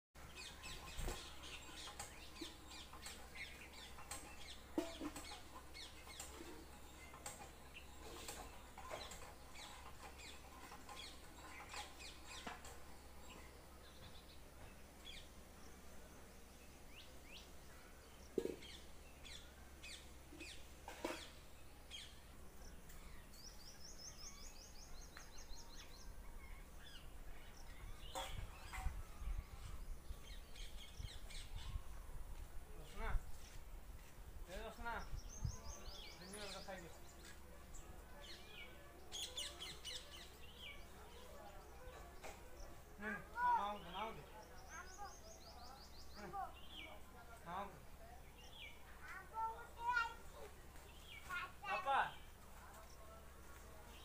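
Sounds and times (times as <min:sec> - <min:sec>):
bird chirps and calls: 0:00.2 - 0:15.8, 0:16.6 - 0:32.1, 0:32.8 - 0:54.0.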